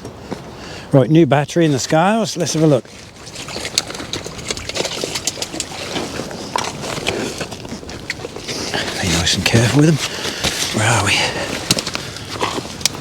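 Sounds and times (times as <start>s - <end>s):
fishing gear clicks and rustling: 2.5s - 13.0s.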